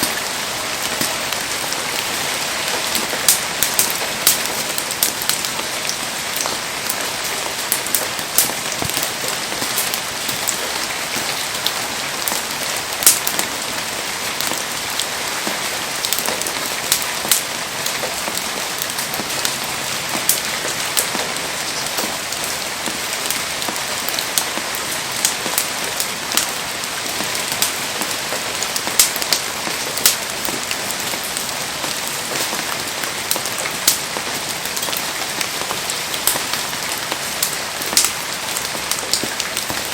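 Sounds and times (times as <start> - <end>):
heavy rain: 0.0 - 39.9
raindrops ticking on surfaces: 0.0 - 39.9.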